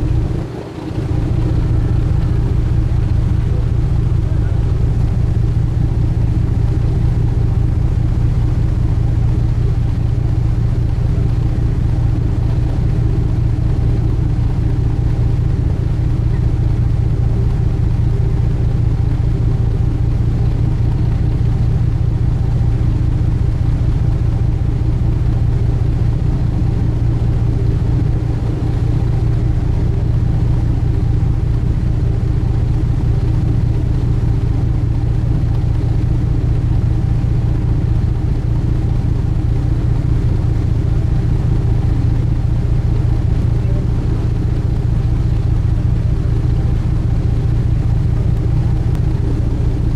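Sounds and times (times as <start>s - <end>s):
boat engine droning: 0.0s - 49.9s.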